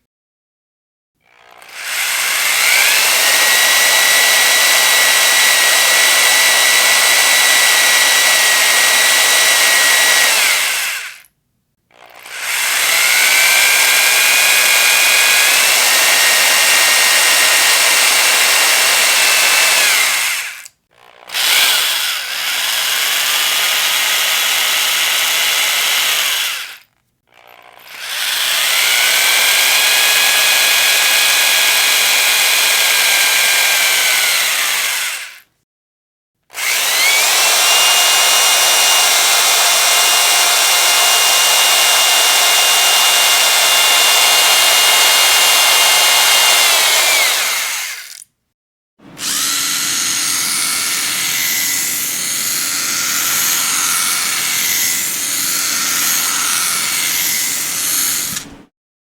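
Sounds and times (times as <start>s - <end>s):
electric power drill running: 1.2s - 11.3s, 11.9s - 35.5s, 36.5s - 48.3s, 49.0s - 58.7s.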